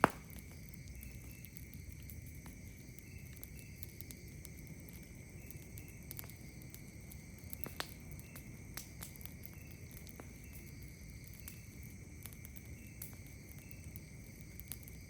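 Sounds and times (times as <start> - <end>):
campfire crackling and popping: 0.0 - 15.0
night insects chorus: 0.0 - 15.0.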